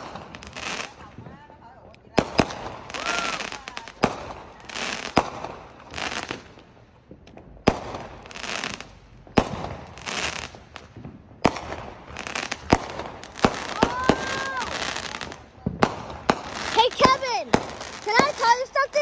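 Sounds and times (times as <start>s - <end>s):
crackling hiss: 0.0s - 19.0s
fireworks bangs: 0.0s - 19.0s.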